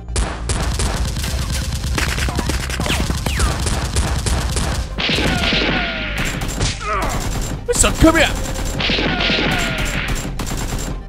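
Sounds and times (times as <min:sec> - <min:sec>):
rapid automatic gunfire: 0:00.5 - 0:11.0.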